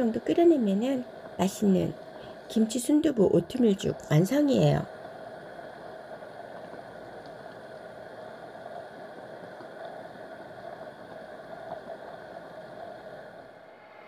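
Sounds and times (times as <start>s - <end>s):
porridge bubbling: 0.0s - 13.6s.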